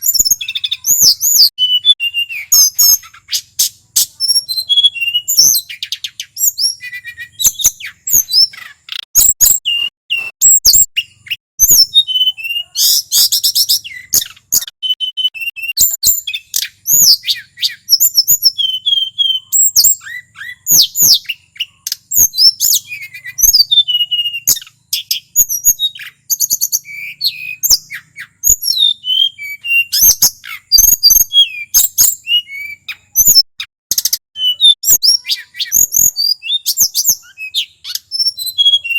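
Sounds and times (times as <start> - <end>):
bird singing rapid chirps: 0.0 - 38.9
bird trill: 0.0 - 38.9.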